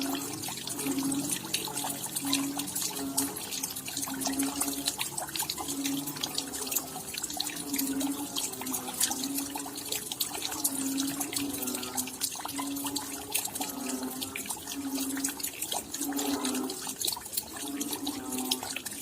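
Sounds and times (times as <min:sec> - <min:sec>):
drops dripping: 0:00.0 - 0:19.0.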